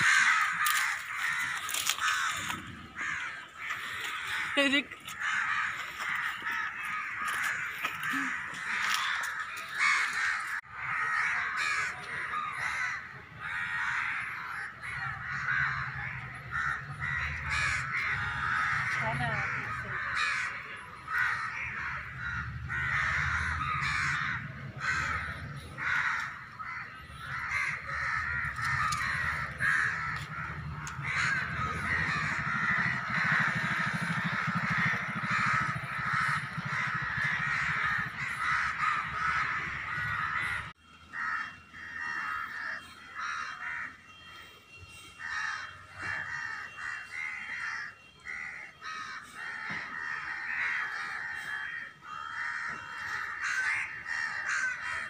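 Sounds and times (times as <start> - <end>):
chorus of bird calls: 0.0 - 55.0.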